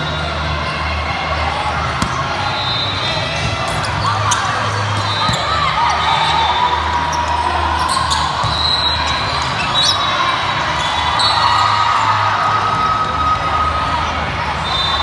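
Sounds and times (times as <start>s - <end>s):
low hum of sports hall: 0.0s - 15.0s.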